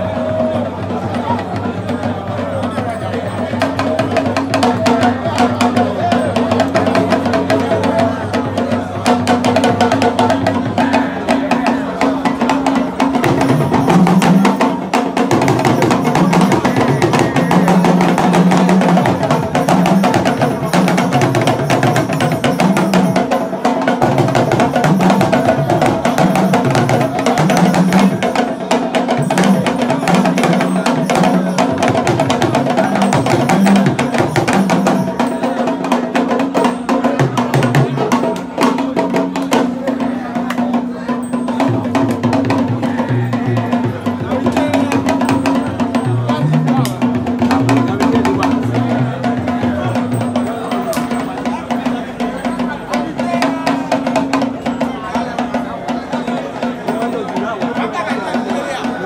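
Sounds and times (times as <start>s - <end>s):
hand drums: 0.0s - 59.0s
wood-block-like clacking percussion: 0.0s - 59.0s.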